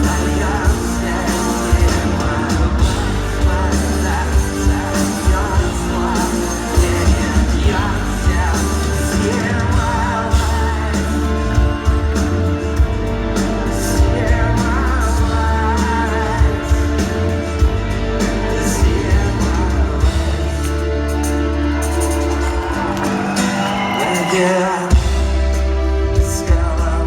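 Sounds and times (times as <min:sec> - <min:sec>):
person singing: 0:00.0 - 0:21.2, 0:22.0 - 0:27.0
rock band playing live: 0:00.0 - 0:27.0.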